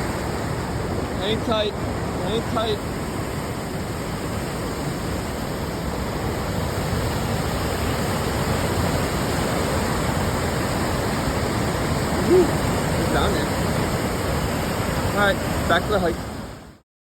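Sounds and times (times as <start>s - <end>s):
water rushing: 0.0s - 16.8s.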